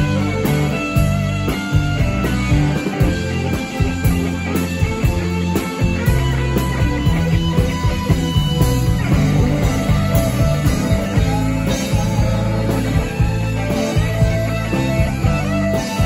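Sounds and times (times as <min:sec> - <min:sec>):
bass: 0:00.0 - 0:16.0
drums: 0:00.0 - 0:16.0
electric guitar: 0:00.0 - 0:16.0.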